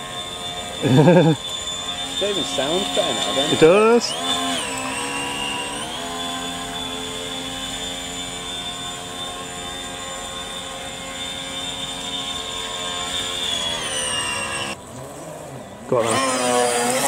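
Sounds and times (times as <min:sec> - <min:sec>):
model jetski motor whining: 0:00.0 - 0:17.0.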